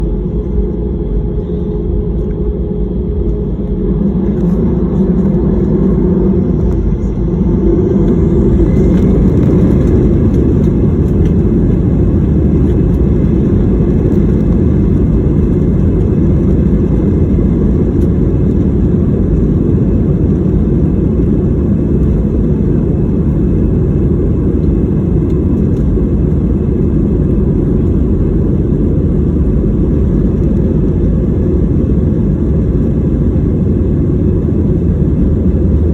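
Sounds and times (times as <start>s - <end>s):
jet airliner taking off: 0.0s - 35.9s.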